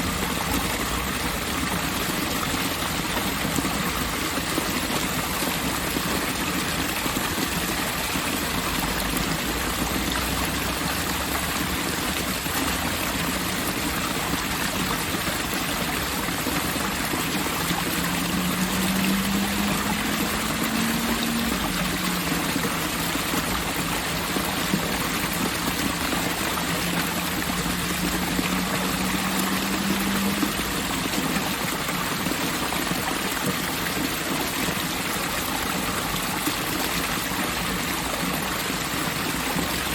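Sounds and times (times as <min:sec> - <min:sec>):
water running: 0:00.0 - 0:34.3.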